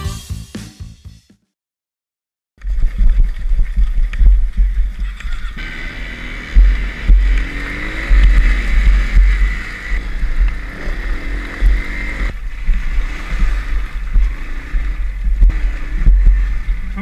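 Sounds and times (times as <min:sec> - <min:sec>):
bump rumble on microphone: 0:02.6 - 0:17.0
motorcycle engine revving: 0:02.6 - 0:17.0
wind on microphone: 0:02.6 - 0:17.0.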